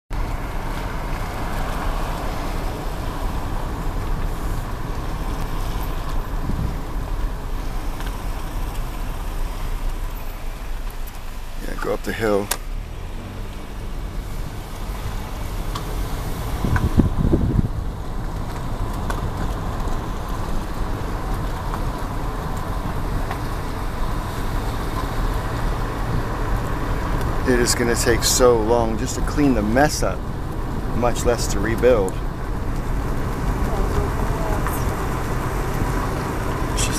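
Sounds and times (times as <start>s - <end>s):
car engine and tyre noise: 0.1s - 36.9s.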